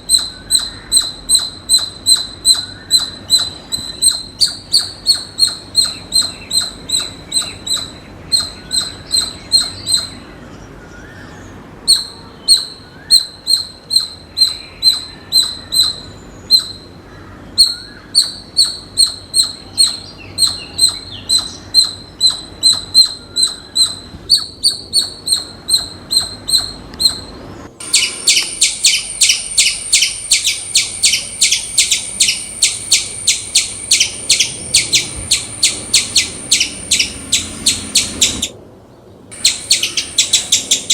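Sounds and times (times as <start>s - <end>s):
squirrel chirping alarm calls: 0.0s - 10.3s, 11.9s - 17.0s, 17.6s - 38.6s, 39.3s - 40.9s.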